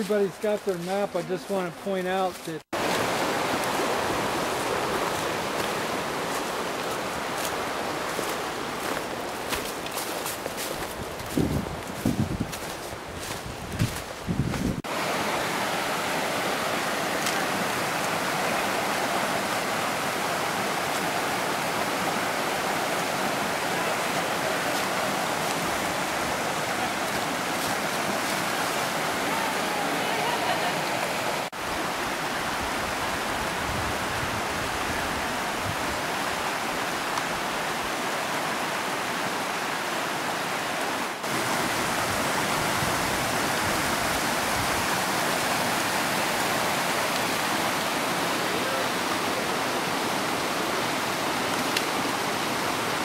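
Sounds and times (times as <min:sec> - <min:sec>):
stream rushing over stones: 0:00.0 - 0:53.0.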